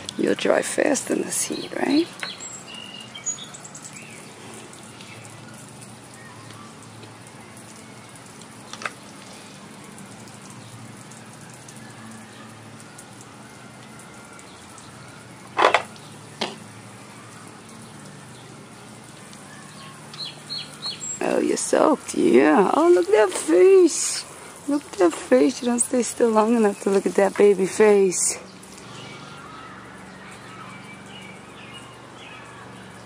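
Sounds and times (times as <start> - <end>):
sprinkler spray hissing: 0.0 - 33.0.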